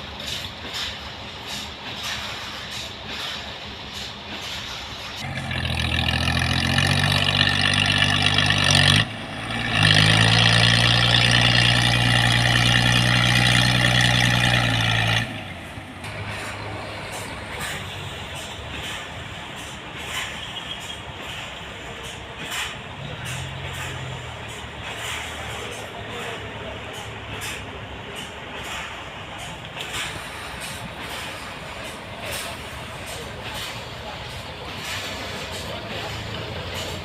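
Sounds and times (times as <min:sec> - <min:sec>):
heavy machine engine running: 0:00.0 - 0:37.0.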